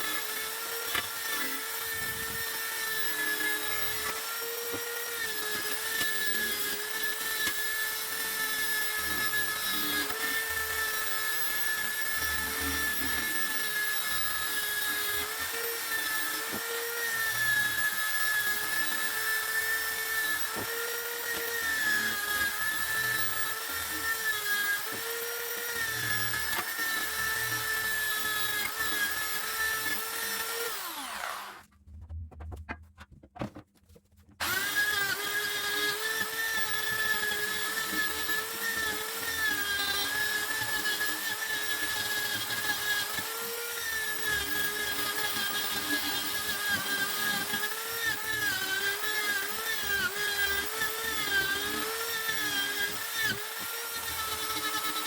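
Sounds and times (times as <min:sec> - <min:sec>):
power tool motor whining: 0:00.0 - 0:31.7, 0:34.4 - 0:55.0.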